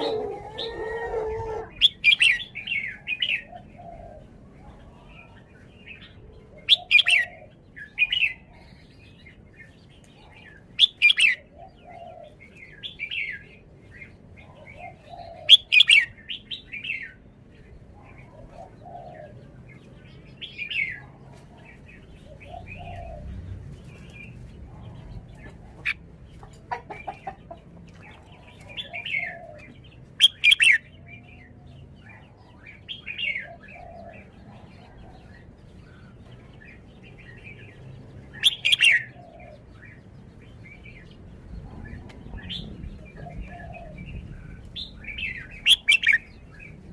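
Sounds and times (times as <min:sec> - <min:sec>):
bird singing warbled phrases: 0:00.0 - 0:46.9.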